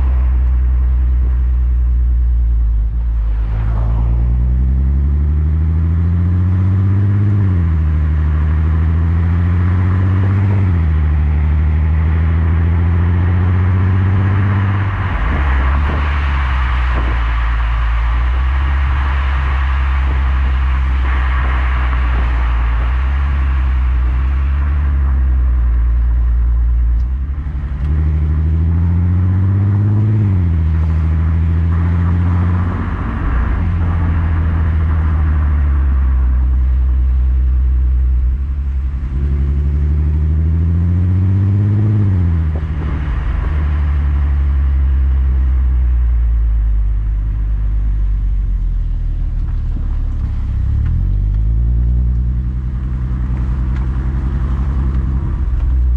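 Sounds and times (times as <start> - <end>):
car engine accelerating and shifting: 0.0 - 55.9.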